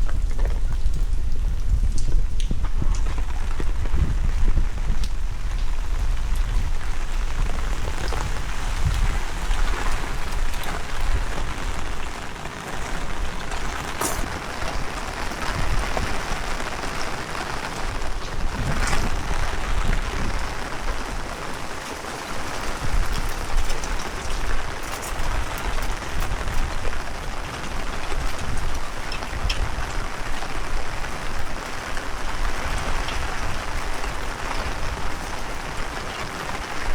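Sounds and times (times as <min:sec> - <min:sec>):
heavy rain falling: 0:00.0 - 0:36.9
wind buffeting microphone: 0:00.0 - 0:36.9.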